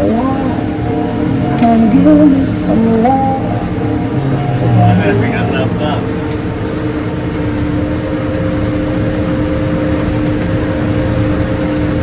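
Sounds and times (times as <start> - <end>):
farm machine engine droning: 0.0 - 12.0.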